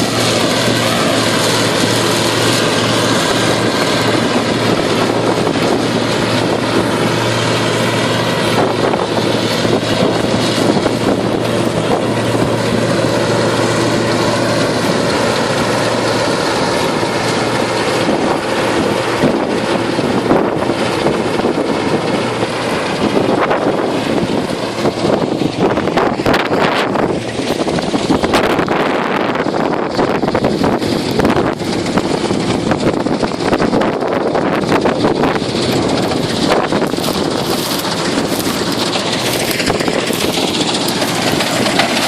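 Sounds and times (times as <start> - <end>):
harvester engine and machinery: 0.0 - 42.0.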